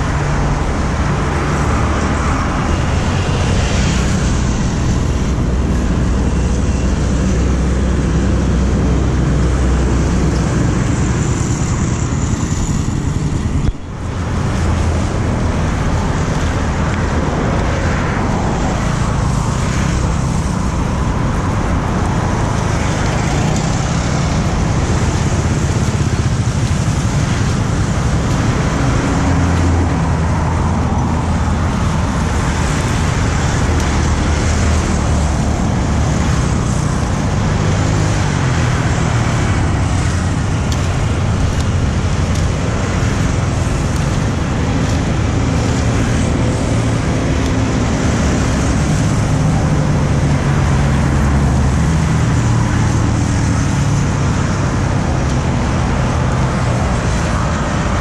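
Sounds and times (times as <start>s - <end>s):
motorbikes and cars passing: 0.0s - 58.0s
traffic din: 0.0s - 58.0s.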